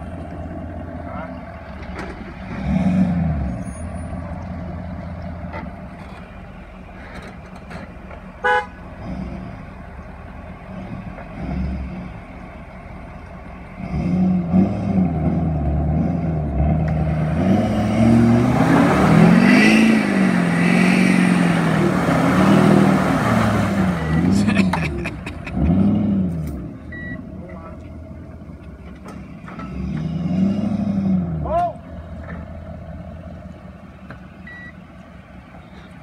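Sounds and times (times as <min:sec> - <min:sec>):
truck engine revving under load: 0:00.0 - 0:36.0.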